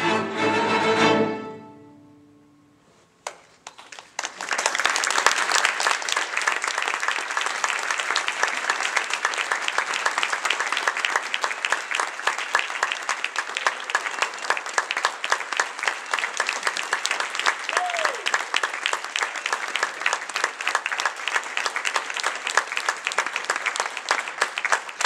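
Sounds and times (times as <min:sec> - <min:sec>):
audience applauding: 0:03.6 - 0:25.0.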